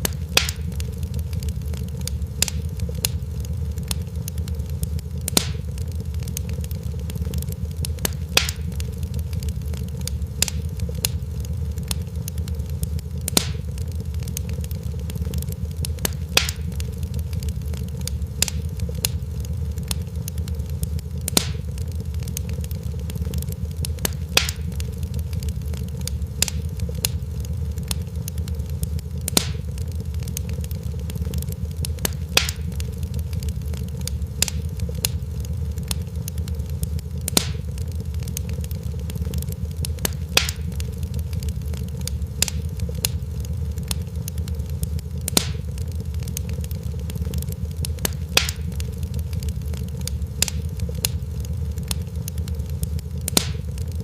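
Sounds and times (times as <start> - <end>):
fire popping and snapping: 0.0 - 54.0
fire rumbling: 0.0 - 54.0.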